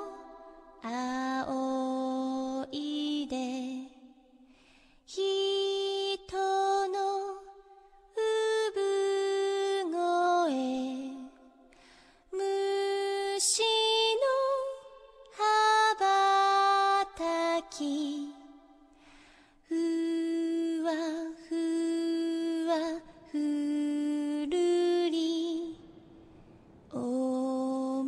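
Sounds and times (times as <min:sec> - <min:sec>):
girl singing: 0:00.0 - 0:04.2, 0:05.1 - 0:11.4, 0:12.3 - 0:18.9, 0:19.6 - 0:26.0, 0:26.9 - 0:28.0.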